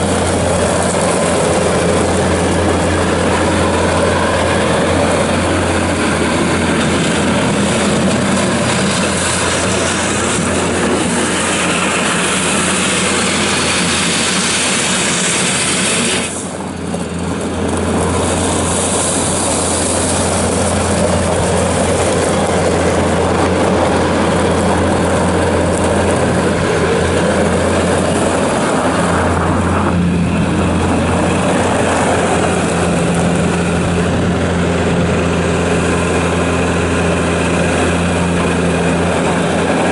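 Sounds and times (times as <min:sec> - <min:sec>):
loader diesel engine running: 0:00.0 - 0:39.9.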